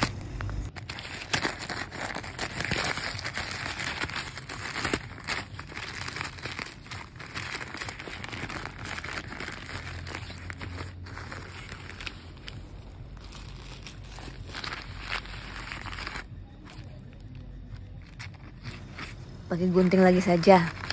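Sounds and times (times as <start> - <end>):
plastic mailer bag crinkling: 0.0 - 20.9.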